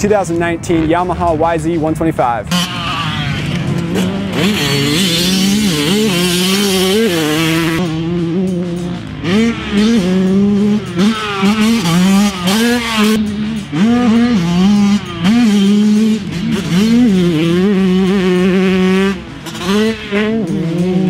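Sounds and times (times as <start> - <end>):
two-stroke engine revving: 2.5 - 21.0.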